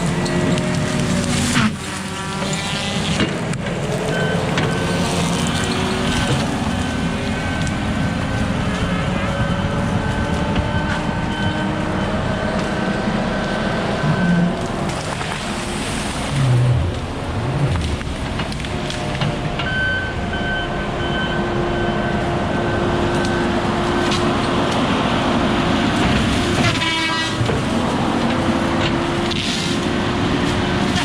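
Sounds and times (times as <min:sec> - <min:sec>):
heavy diesel machinery running: 0:00.0 - 0:31.0.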